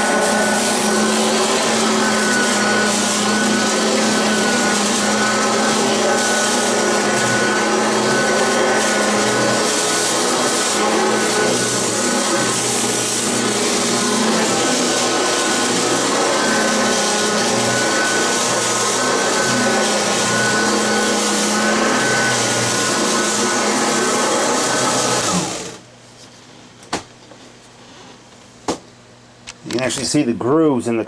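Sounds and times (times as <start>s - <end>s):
vacuum cleaner on carpet: 0.0s - 25.9s.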